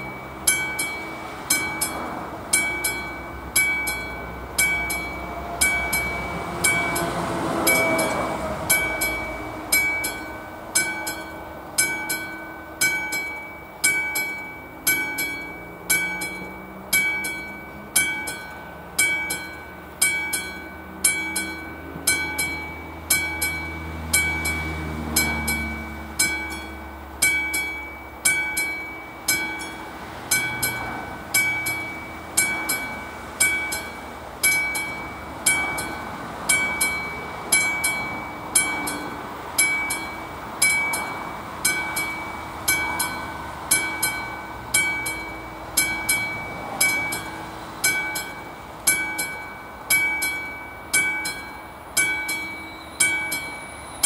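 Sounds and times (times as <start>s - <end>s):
mechanical warning bell ringing: 0.0s - 54.0s
road vehicles passing: 0.0s - 54.0s.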